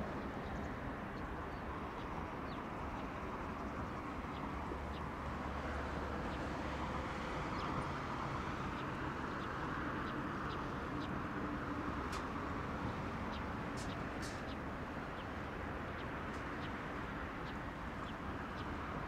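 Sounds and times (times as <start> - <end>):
distant road traffic hum: 0.0 - 19.0.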